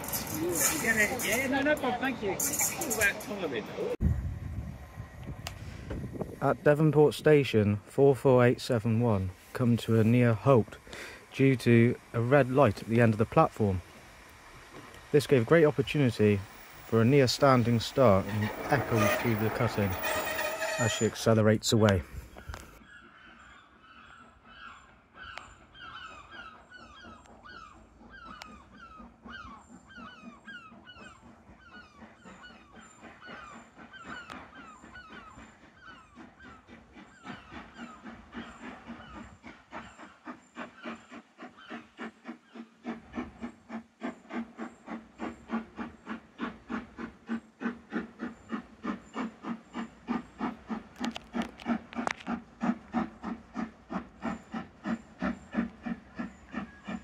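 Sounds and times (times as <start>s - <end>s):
steam locomotive exhaust beats: 4.0s - 22.6s, 26.4s - 57.0s.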